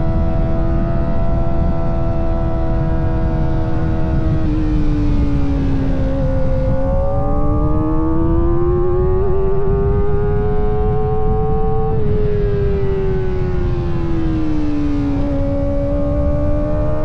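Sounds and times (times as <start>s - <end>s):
motorcycle engine whining at high revs: 0.0s - 17.0s
wind rush on microphone: 0.0s - 17.0s.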